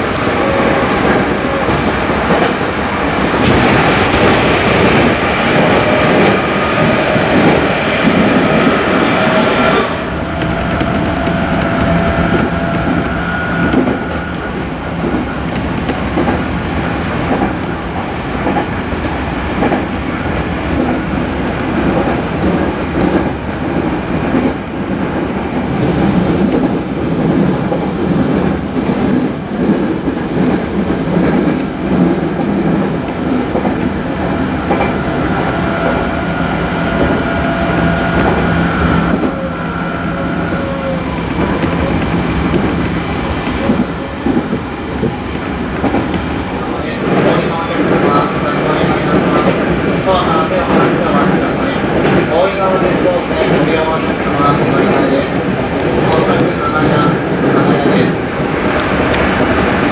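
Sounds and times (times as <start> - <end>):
clickety-clack from track: 0.0 - 36.2, 36.8 - 39.5, 40.1 - 59.9
train wheels rumbling on rails: 0.0 - 59.9.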